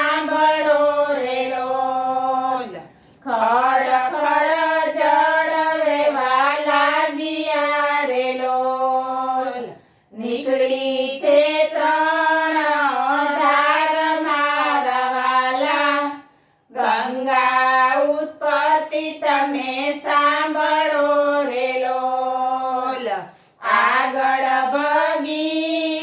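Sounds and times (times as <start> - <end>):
women singing in unison: 0.0 - 26.0.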